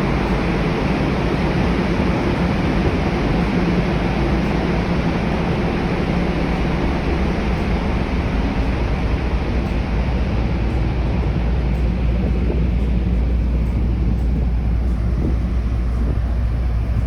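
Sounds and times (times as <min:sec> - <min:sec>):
ferry engine low rumble: 0:00.0 - 0:17.0
water washing alongside: 0:00.0 - 0:17.0
wind on microphone: 0:00.0 - 0:17.0.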